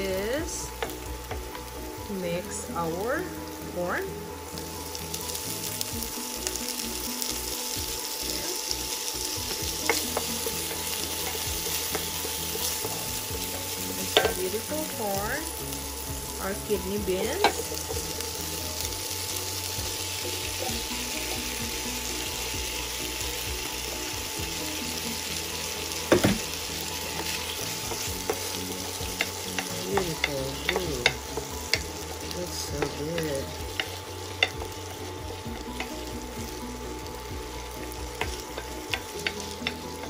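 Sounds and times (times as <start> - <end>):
vegetables sizzling in a pan: 0.0 - 40.0
wooden spoon stirring: 4.8 - 24.0, 24.8 - 40.0.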